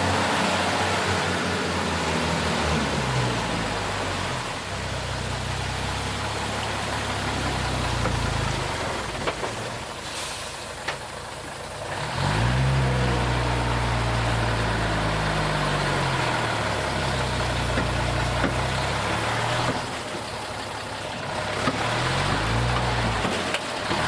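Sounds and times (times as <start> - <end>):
diesel truck engine labouring: 0.0 - 24.0.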